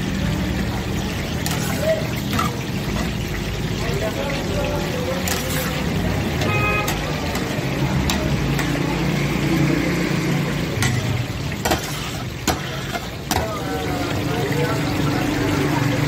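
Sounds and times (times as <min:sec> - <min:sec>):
patties sizzling in hot oil: 0:00.0 - 0:16.0.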